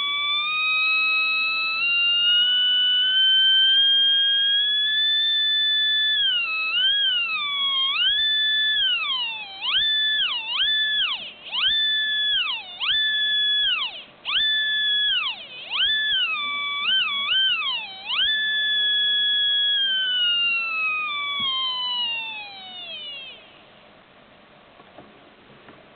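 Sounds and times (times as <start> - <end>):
tiny motor whining at high speed: 0.0 - 23.5.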